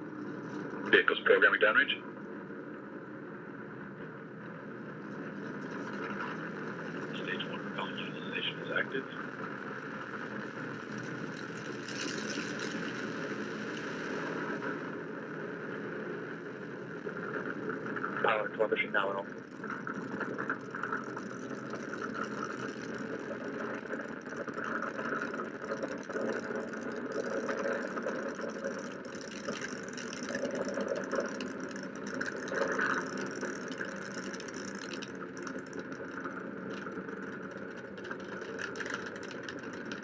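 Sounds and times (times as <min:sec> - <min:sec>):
rocket engines roaring: 0:00.0 - 0:40.0.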